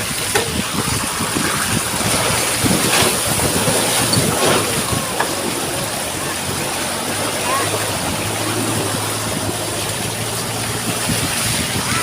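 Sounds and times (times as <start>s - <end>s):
moving vehicle rushing noise: 0.0s - 12.0s
wind buffeting microphone: 0.0s - 12.0s.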